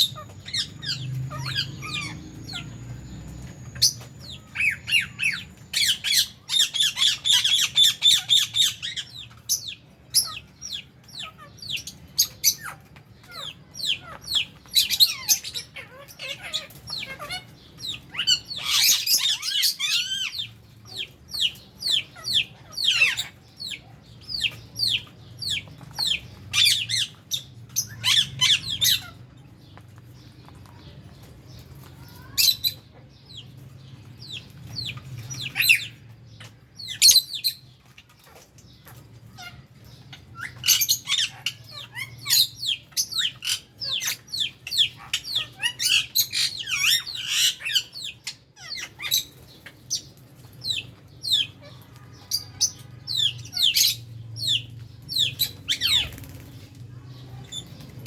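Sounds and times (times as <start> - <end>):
lovebirds chirping and squawking: 0.0 - 58.0.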